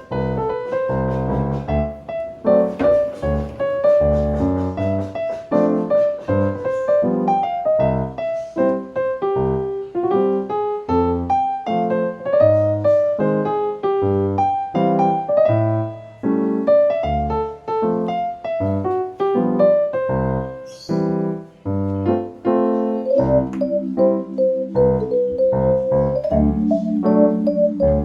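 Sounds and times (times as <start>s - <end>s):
solo piano melody: 0.0s - 28.0s.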